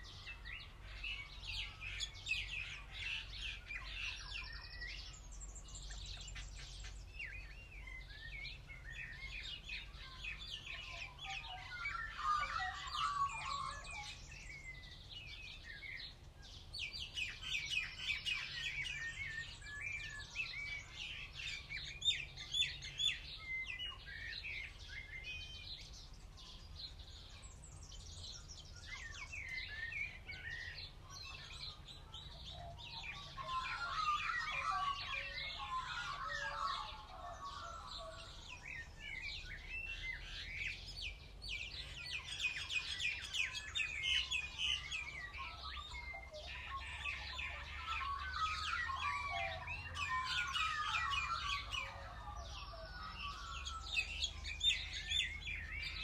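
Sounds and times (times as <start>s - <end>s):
birds chirping and trilling: 0.0s - 56.0s
low bird call: 0.0s - 56.0s.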